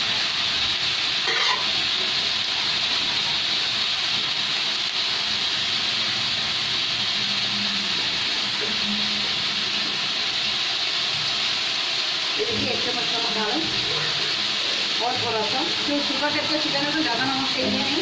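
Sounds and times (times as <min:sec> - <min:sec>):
chicken sizzling in hot oil: 0:00.0 - 0:18.0.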